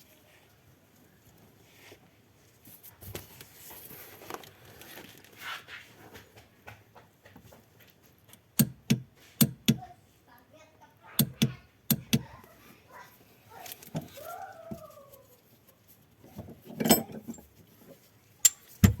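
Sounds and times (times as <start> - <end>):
faint handling noises: 0.0 - 10.4, 11.4 - 19.0.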